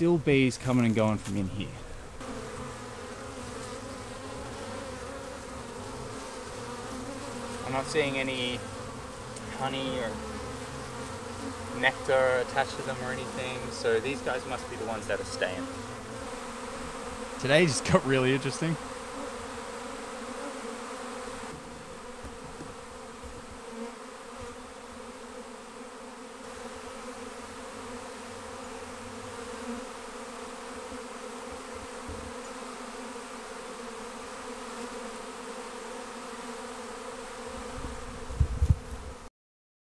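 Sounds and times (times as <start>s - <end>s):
honeybees buzzing: 0.0s - 39.3s.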